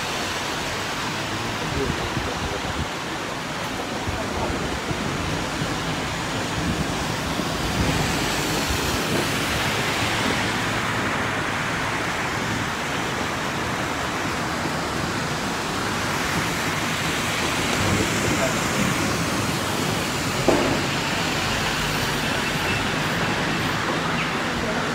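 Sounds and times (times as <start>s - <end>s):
car tyres swishing through water: 0.0s - 24.9s
heavy rain hissing: 0.0s - 24.9s.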